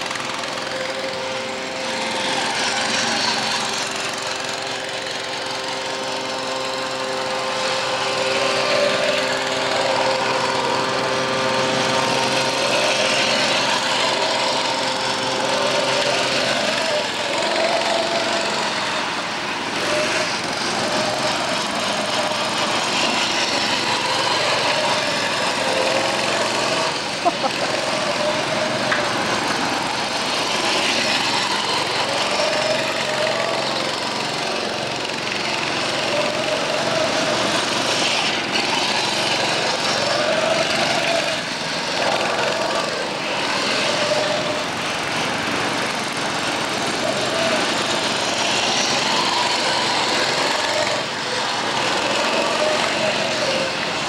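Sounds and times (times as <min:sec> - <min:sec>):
go-kart engines: 0:00.0 - 0:54.0.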